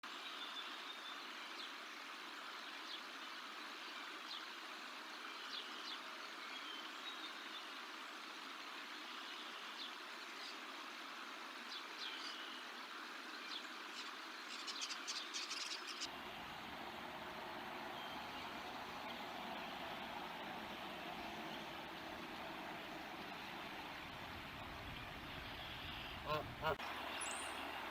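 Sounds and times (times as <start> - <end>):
steady outdoor hiss: 0.0 - 27.9.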